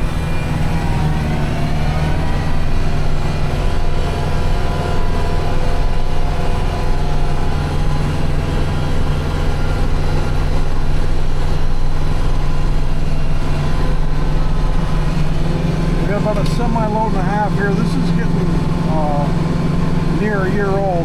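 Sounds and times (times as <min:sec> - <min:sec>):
vehicle engine running steadily: 0:00.0 - 0:21.0.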